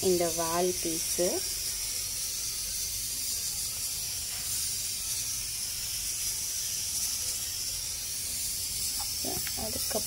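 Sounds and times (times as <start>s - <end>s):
pan simmering with high hiss: 0.0s - 10.0s.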